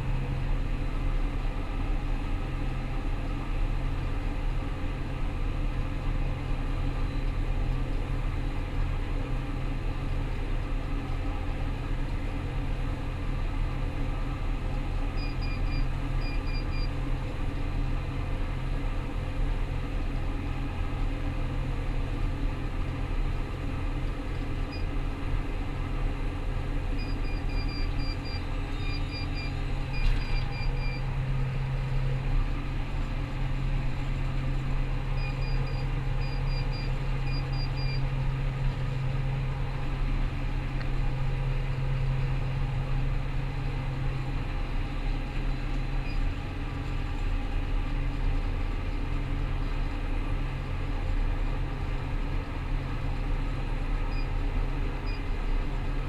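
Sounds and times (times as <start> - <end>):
combine harvester engine drone: 0.0 - 56.0.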